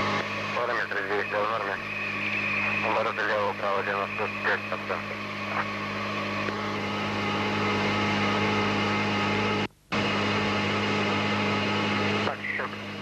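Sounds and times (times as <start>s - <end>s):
aircraft cockpit hum and drone: 0.0s - 13.0s.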